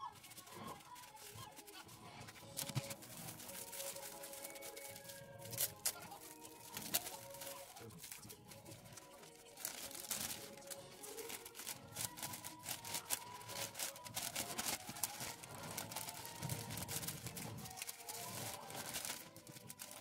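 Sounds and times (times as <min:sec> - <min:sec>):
faint background music: 0:00.0 - 0:20.0
plastic bag rustling: 0:00.0 - 0:20.0
wrapping paper crinkling: 0:00.0 - 0:20.0.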